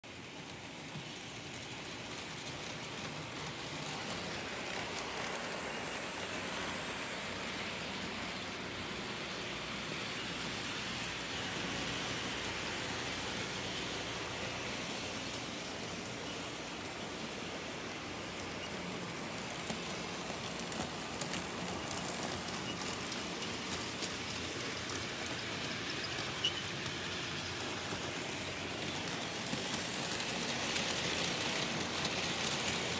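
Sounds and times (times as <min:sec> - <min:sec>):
model trains rolling: 0:00.0 - 0:32.9.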